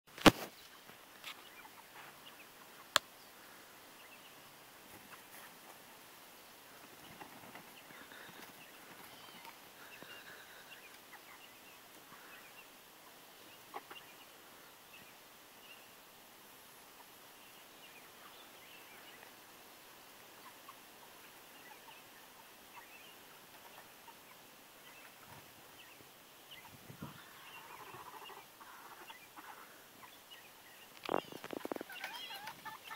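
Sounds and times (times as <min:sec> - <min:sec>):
chickens clucking: 0:01.0 - 0:03.0, 0:04.0 - 0:06.1, 0:06.7 - 0:15.2, 0:16.7 - 0:32.9.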